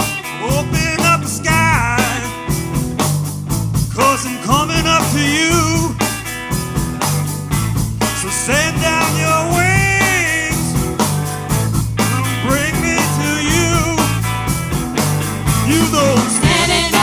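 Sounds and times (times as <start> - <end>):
bass: 0.0 - 17.0
live rock band playing: 0.0 - 17.0
steady drum beat: 0.0 - 17.0.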